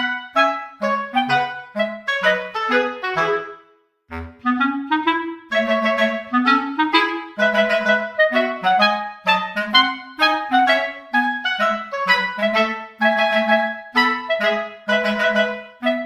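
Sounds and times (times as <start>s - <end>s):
reedy wind instrument melody: 0.0s - 16.0s.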